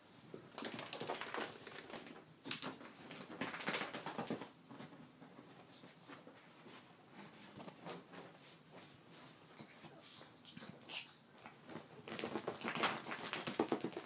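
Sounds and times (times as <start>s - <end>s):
bedding rustling: 0.0s - 14.0s.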